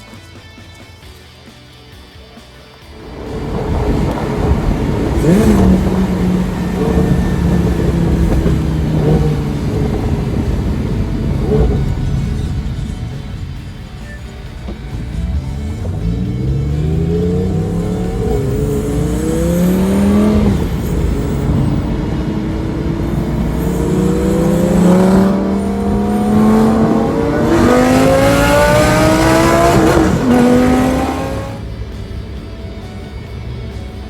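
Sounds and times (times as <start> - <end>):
car engine accelerating hard: 3.0 - 34.0.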